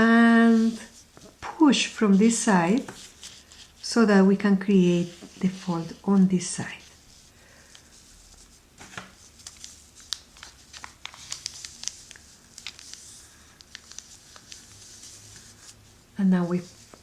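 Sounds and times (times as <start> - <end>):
paper crinkling and rustling: 0.4 - 3.9, 4.8 - 17.0.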